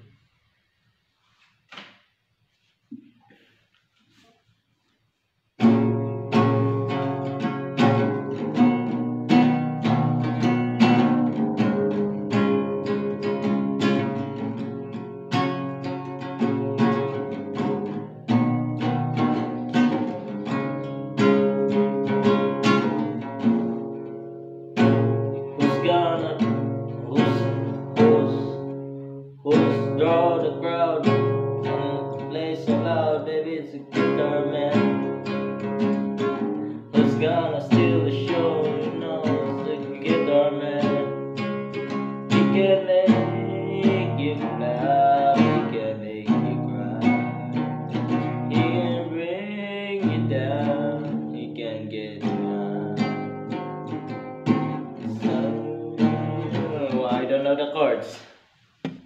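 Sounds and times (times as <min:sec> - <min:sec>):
acoustic guitar strumming: 0:05.6 - 0:58.0.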